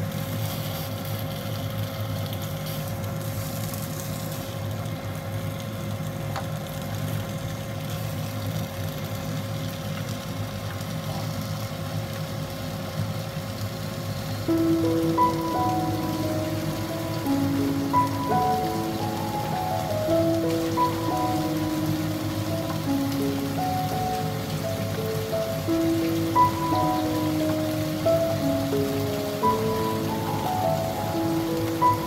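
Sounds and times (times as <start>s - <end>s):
fish sizzling in a frying pan: 0.0s - 32.0s.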